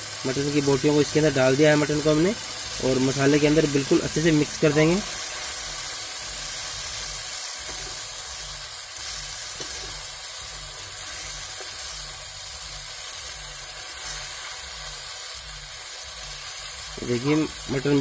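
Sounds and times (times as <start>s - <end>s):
meat sizzling in hot oil: 0.0s - 18.0s.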